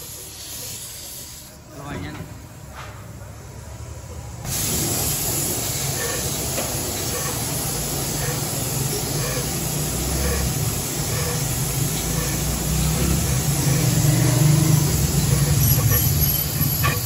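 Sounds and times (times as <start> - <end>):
spray gun air hiss: 0.0 - 1.6, 4.5 - 16.9.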